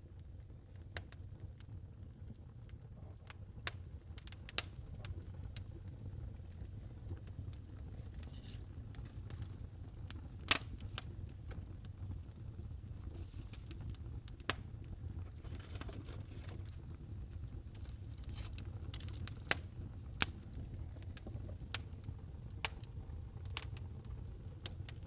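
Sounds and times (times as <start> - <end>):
low fire rumble: 0.0 - 25.0
wood fire crackling and popping: 0.0 - 25.0.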